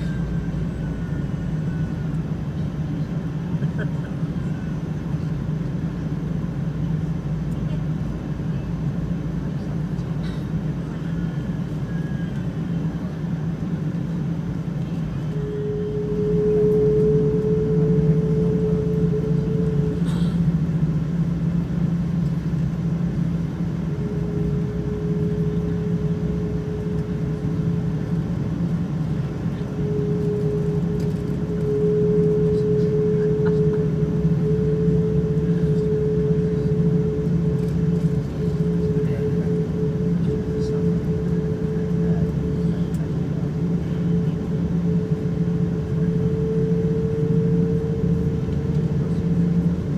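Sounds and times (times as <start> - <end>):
aircraft cabin rumble: 0.0 - 49.9
steady hum: 0.0 - 49.9.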